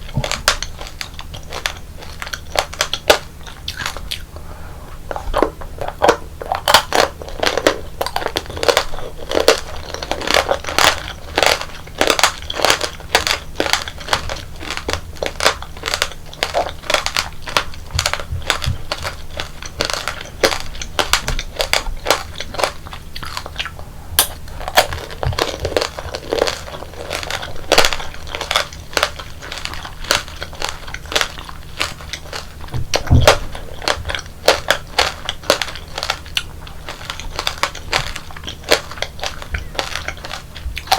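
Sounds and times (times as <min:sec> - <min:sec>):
hard candy crunching: 0:00.0 - 0:40.9
wet chewing: 0:00.0 - 0:40.9.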